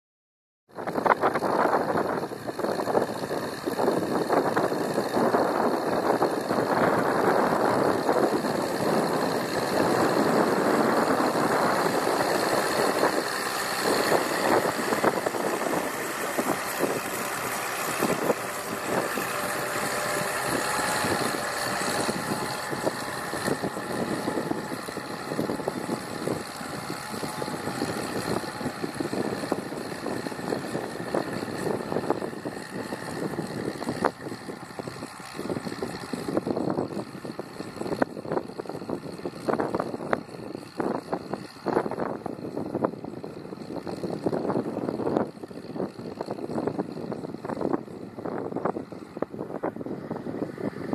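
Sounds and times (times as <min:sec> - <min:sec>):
tractor diesel engine under load: 0:00.7 - 0:50.9.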